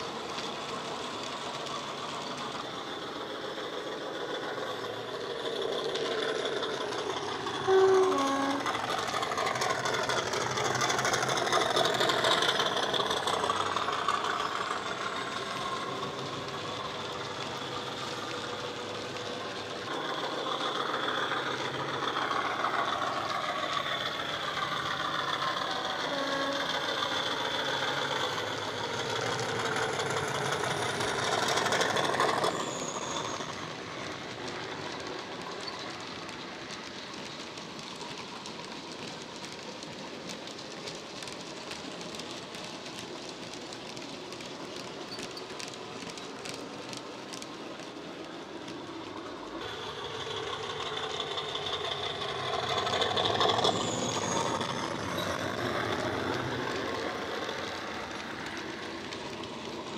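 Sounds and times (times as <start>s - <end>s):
model wheels clicking over track: 0.0s - 59.9s.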